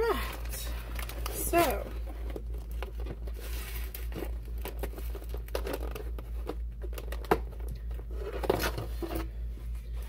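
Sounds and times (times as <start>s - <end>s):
steady low hum: 0.0s - 10.0s
plastic lid crinkling: 0.1s - 9.3s.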